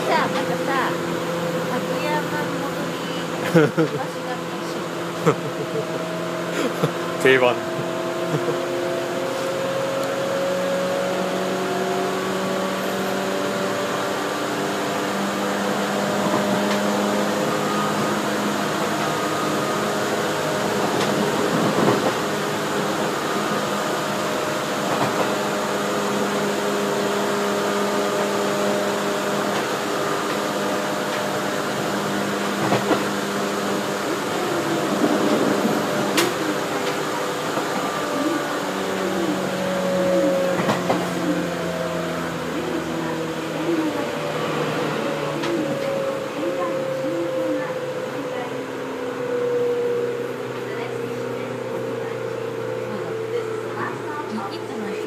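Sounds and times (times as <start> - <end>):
electric train rumble inside carriage: 0.0 - 55.0.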